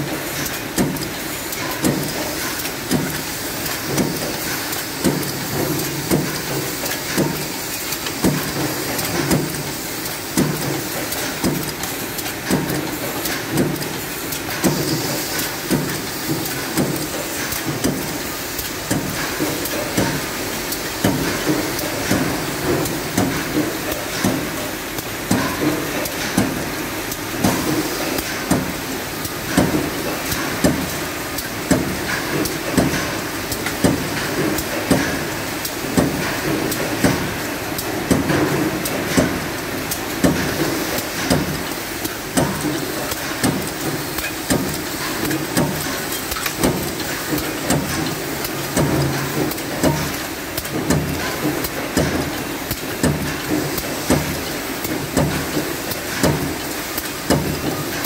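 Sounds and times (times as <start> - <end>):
steady mechanical clatter: 0.0 - 58.0.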